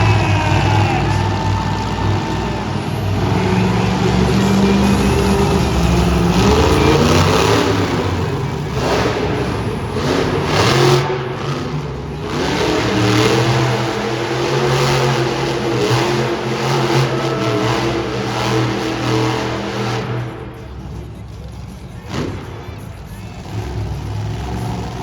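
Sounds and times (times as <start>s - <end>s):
monster truck engine revving: 0.0s - 25.0s.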